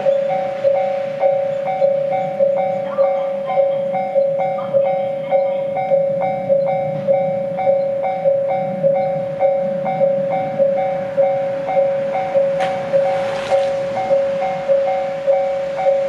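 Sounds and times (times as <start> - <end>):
level-crossing warning bell: 0.0 - 16.0.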